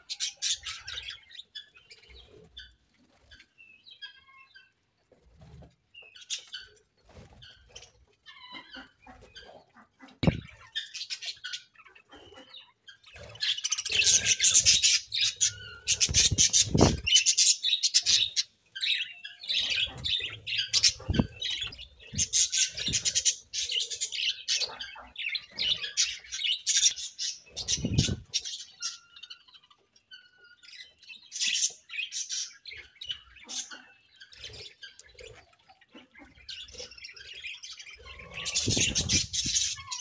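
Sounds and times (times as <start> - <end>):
budgerigars chattering and chirping: 0.0 - 4.8, 5.4 - 40.0.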